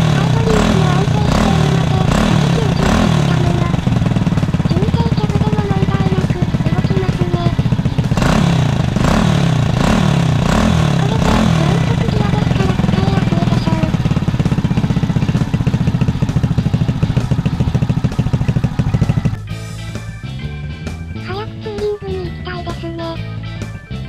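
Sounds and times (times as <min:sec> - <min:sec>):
motorcycle engine revving and idling: 0:00.0 - 0:24.0.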